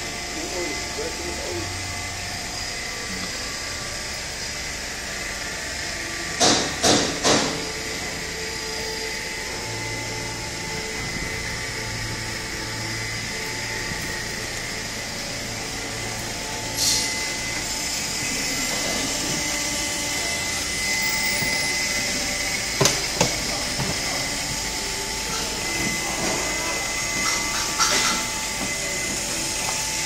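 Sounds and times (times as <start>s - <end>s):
pump motor running: 0.0s - 30.0s.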